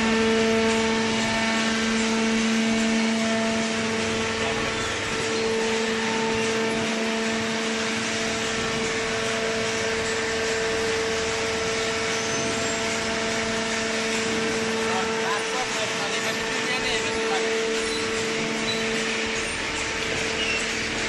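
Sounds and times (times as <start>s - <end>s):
hydraulic power unit humming: 0.0s - 21.0s.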